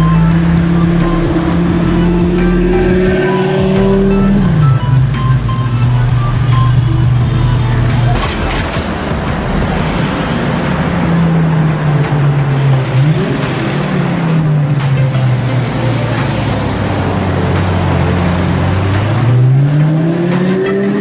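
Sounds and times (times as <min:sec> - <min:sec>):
car engine at low revs: 0:00.0 - 0:21.0
road traffic noise: 0:00.0 - 0:21.0.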